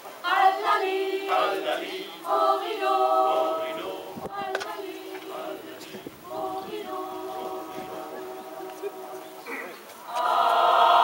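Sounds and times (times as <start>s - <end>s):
mixed choir singing: 0.0s - 11.0s.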